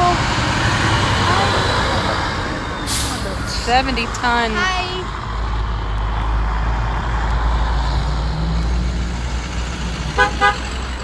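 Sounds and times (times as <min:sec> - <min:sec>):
truck diesel engine rumble: 0:00.0 - 0:11.0.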